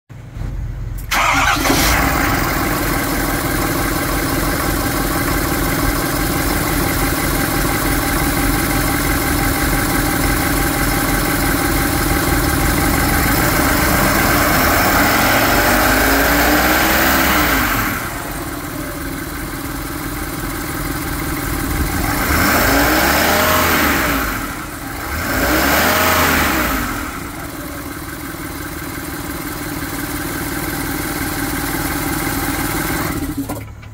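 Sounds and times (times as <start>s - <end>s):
truck engine revving and idling: 0.2s - 33.9s
truck engine starting: 0.2s - 33.9s.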